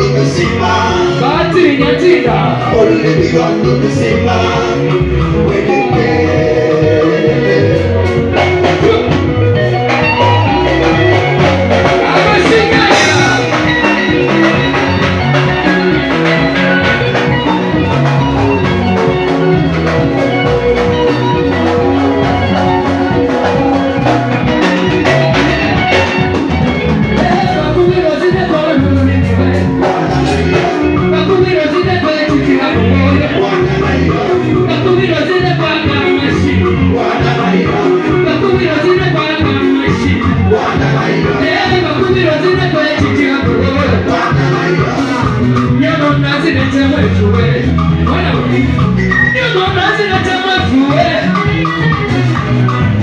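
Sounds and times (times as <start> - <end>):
person singing: 0.0 - 9.4, 10.1 - 51.9
live band playing: 0.0 - 53.0
repeating bass line: 0.0 - 53.0.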